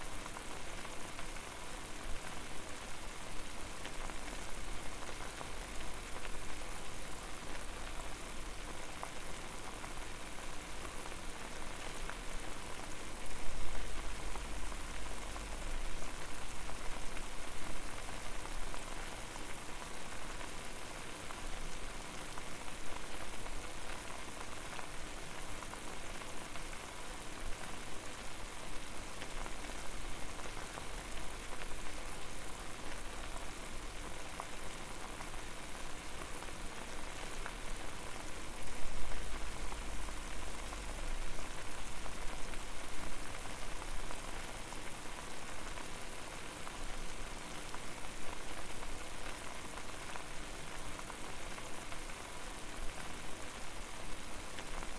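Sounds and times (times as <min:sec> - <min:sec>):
water boiling and bubbling: 0:00.1 - 0:54.9.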